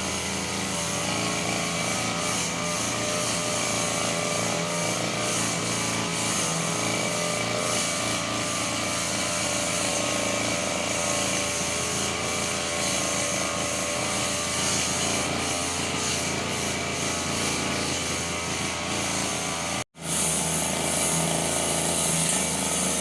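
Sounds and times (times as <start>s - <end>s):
brush cutter engine running: 0.0s - 23.0s.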